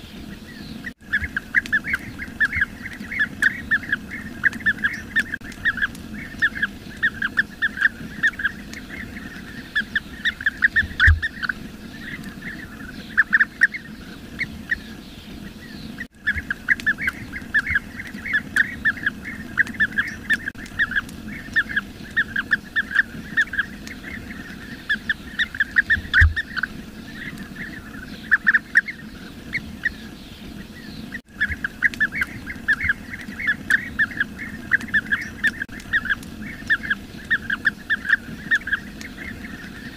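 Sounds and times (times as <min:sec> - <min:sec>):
bee-eaters calling: 0:00.0 - 0:39.9.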